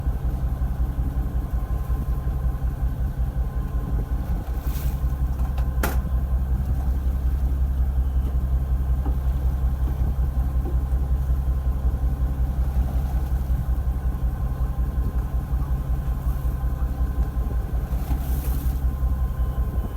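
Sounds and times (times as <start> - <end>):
boat engine rumbling: 0.0 - 19.9.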